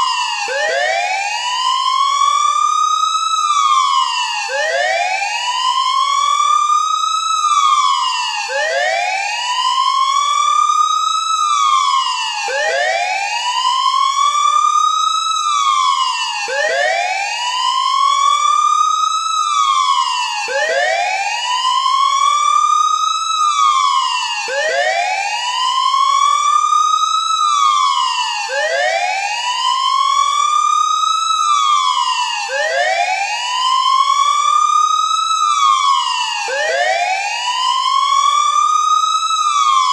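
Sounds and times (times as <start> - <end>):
siren wailing: 0.0 - 39.9.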